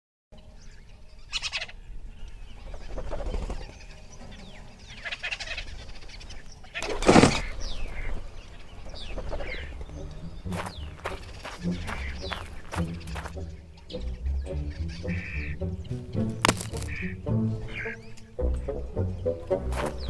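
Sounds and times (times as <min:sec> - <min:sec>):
nature background: 0:00.3 - 0:20.0
bird chirps and calls: 0:00.4 - 0:20.0.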